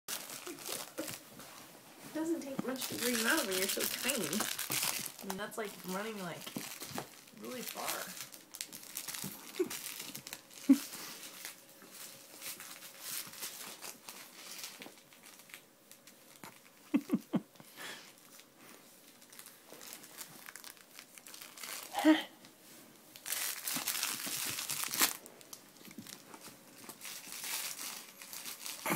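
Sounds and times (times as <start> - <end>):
plush toy crinkling and rustling: 0.1 - 17.3, 18.0 - 28.9.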